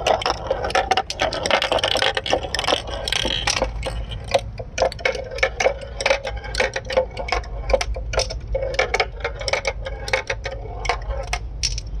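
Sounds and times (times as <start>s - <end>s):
marbles clicking and clacking: 0.0s - 12.0s
marbles rolling rumble: 0.0s - 12.0s.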